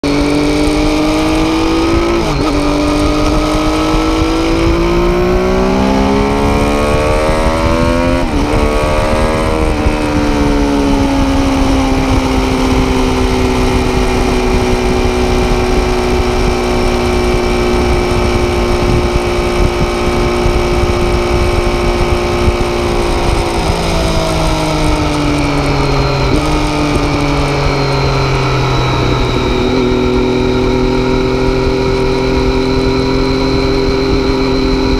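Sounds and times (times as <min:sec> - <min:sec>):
motorcycle engine accelerating: 0:00.0 - 0:34.9
wind rushing: 0:00.0 - 0:34.9.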